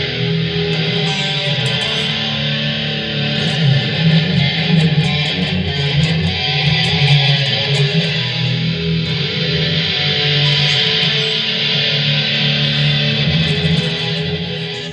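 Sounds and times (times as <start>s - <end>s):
distorted electric guitar: 0.0s - 14.9s.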